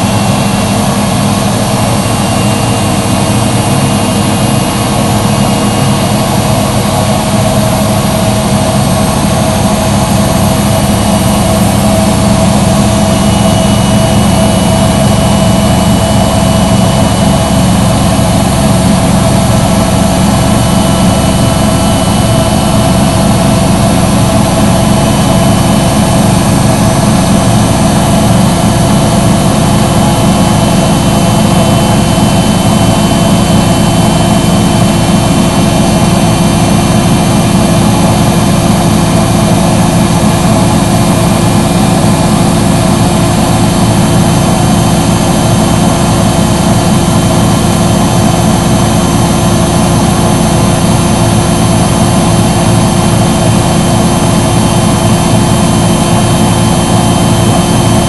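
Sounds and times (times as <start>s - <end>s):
washing machine motor humming: 0.0s - 58.0s.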